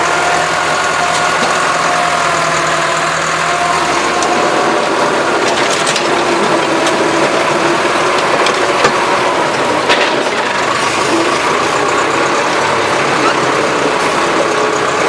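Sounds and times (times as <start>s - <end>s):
machinery clanks and knocks: 0.0s - 15.0s
tractor engine running: 0.0s - 15.0s.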